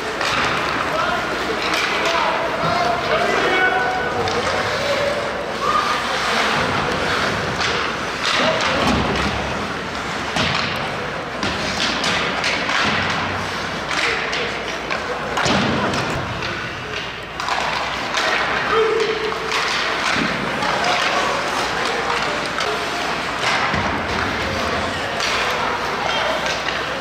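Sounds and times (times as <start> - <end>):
hockey game noise: 0.0 - 27.0.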